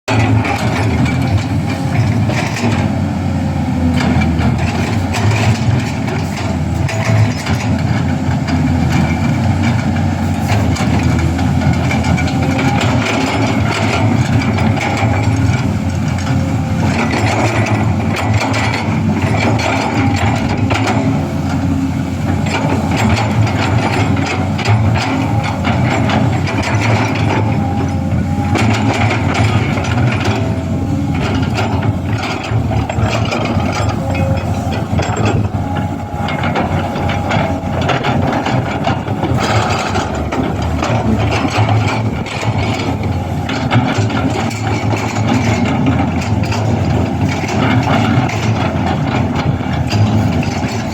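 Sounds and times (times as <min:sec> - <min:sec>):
excavator engines running: 0:00.0 - 0:50.9
machine clanks and knocks: 0:00.1 - 0:03.0, 0:03.8 - 0:50.9.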